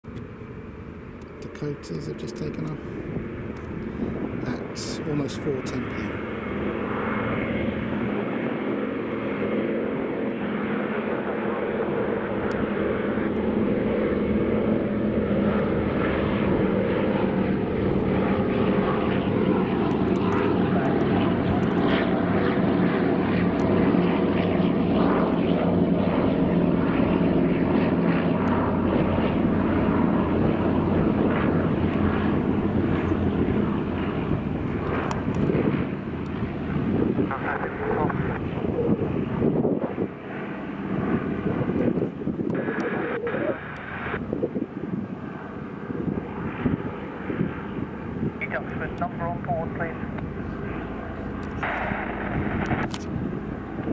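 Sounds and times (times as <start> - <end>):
propeller planes droning: 0.0 - 53.9.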